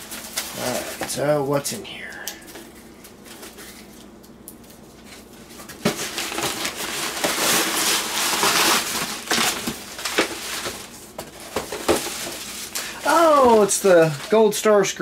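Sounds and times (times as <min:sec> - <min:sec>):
packing paper crinkling: 0:00.0 - 0:01.4, 0:02.4 - 0:15.0.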